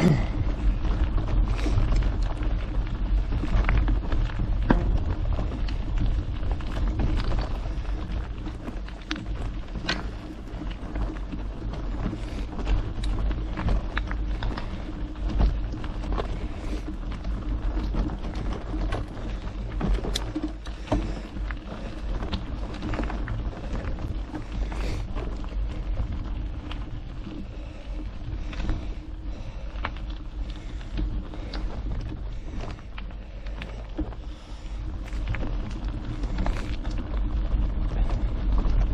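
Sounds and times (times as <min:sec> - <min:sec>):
bike clicks and rattles: 0:00.0 - 0:38.9
tyres rolling over trail: 0:00.0 - 0:38.9
wind buffeting microphone: 0:00.0 - 0:38.9.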